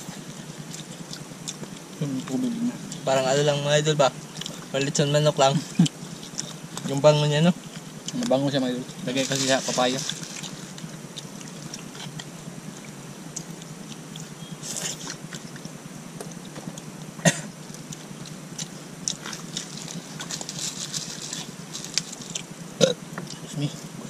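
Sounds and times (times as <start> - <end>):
people chewing: 0.0 - 24.0.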